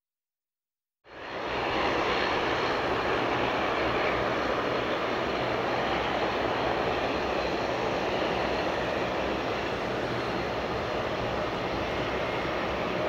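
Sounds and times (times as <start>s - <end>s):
jet engine noise: 1.1s - 13.0s.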